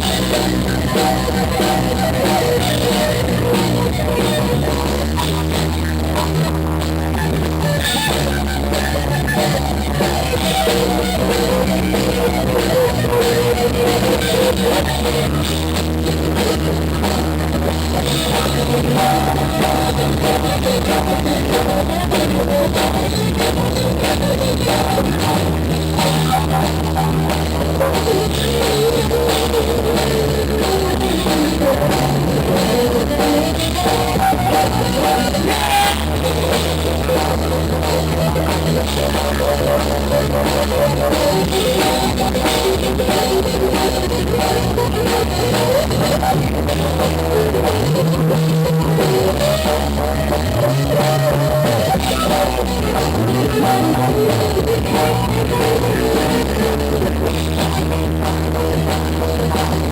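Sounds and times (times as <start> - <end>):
rock band playing: 0.0 - 59.9
wavering melodic guitar lead: 0.0 - 59.9.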